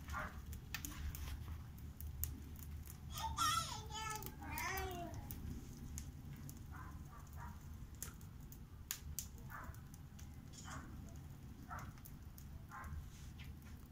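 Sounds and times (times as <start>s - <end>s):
low rumble of flame: 0.0s - 13.9s
wood fire crackling: 0.0s - 13.9s.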